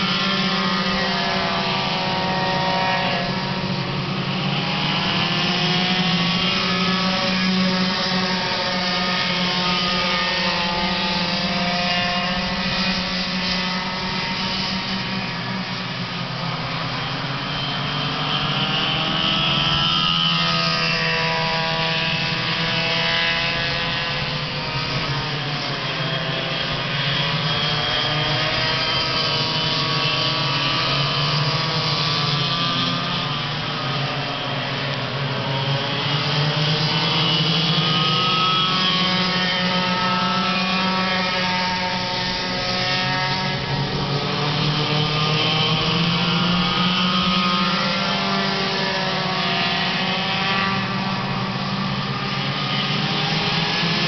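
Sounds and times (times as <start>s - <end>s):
go-kart engines racing: 0.0s - 54.0s.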